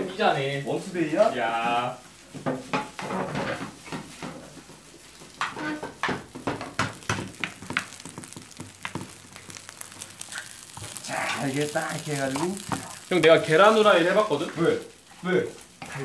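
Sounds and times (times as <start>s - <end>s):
light sizzle: 0.0s - 16.0s
spatula scraping and tapping pan: 2.2s - 11.0s, 11.7s - 16.0s.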